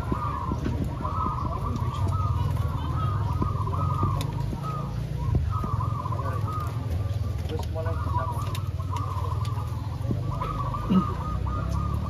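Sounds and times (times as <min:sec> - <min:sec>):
doves cooing: 0:00.0 - 0:12.0.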